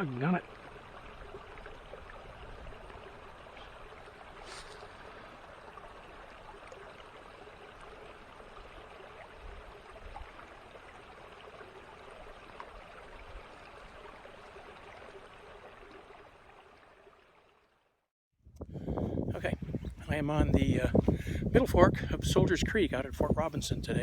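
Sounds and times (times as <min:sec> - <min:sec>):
creek water flowing: 0:00.0 - 0:23.8.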